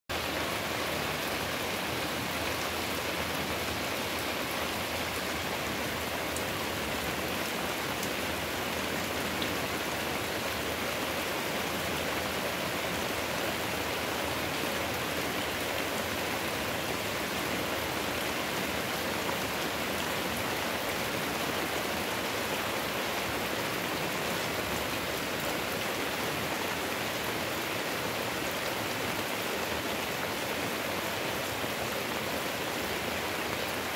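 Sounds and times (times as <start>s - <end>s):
heavy rain on roofs: 0.1s - 33.9s
water streaming off eaves: 0.1s - 33.9s.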